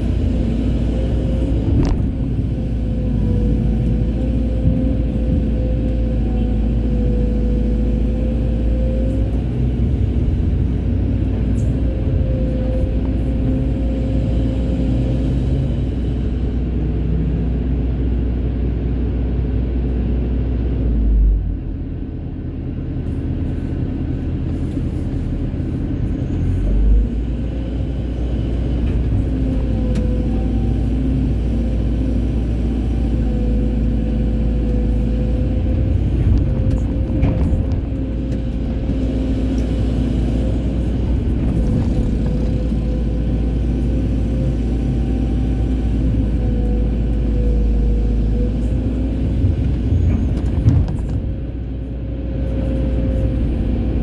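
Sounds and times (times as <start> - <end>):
diesel engine rumble: 0.0 - 54.0.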